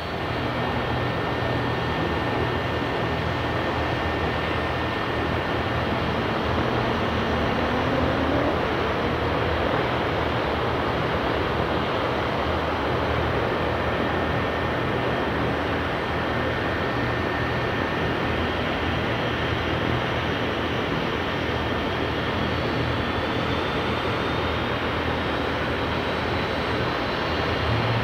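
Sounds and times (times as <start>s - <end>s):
turboprop engines starting up: 0.0s - 28.0s.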